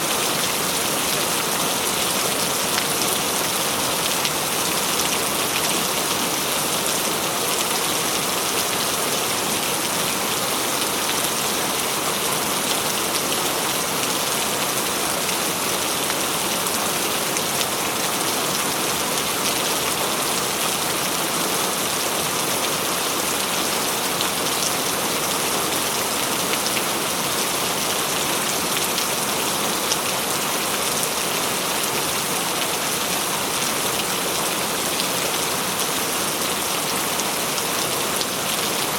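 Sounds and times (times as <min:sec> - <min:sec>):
heavy rain pattering and splashing: 0:00.0 - 0:38.9.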